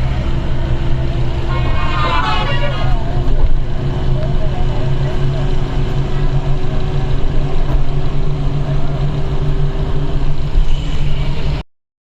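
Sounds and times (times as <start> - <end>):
train running rumble: 0.0 - 11.6.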